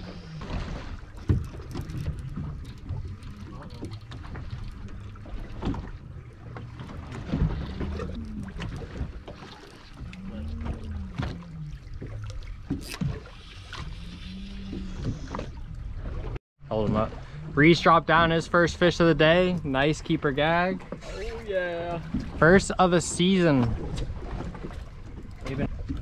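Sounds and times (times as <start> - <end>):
water around boat hull: 0.0 - 26.0.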